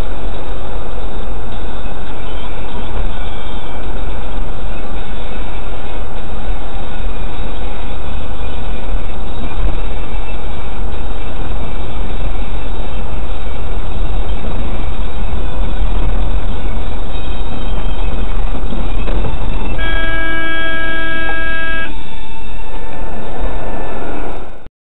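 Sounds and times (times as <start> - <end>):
road and engine rumble in cab: 0.0 - 24.7.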